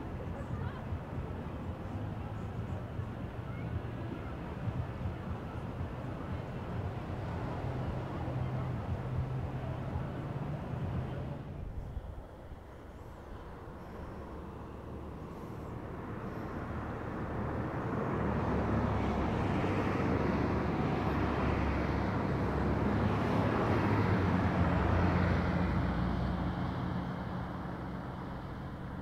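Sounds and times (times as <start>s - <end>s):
passing vehicle engine hum: 0.0s - 29.0s
road noise: 0.0s - 29.0s.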